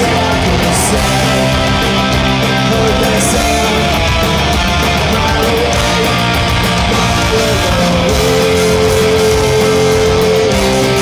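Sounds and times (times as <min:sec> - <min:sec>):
pop-punk band playing live: 0:00.0 - 0:11.0.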